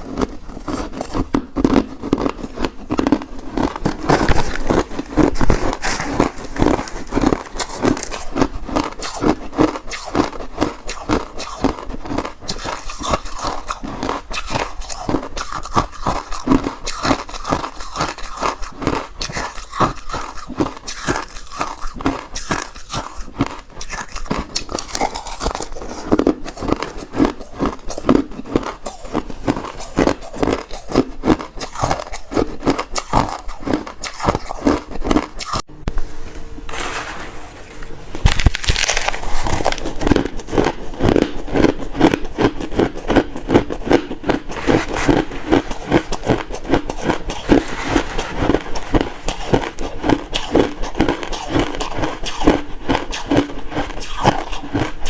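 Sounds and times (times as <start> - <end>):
chewing crushed ice: 0.0 - 35.7, 38.2 - 55.0.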